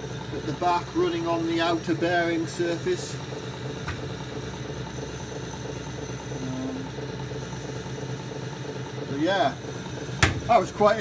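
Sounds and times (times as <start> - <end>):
lathe humming: 0.0 - 11.0.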